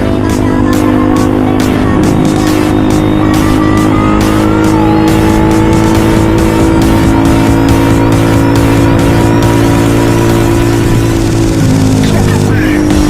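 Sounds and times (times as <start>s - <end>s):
motorcycle engine running: 0.0s - 13.0s
music: 0.0s - 13.0s.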